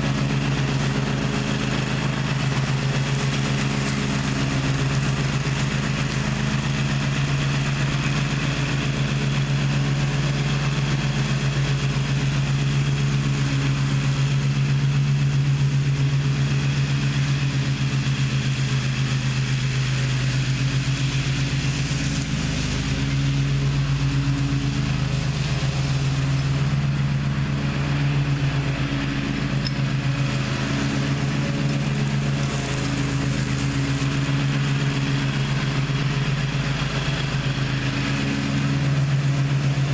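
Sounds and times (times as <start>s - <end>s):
mower engine droning: 0.0s - 39.9s.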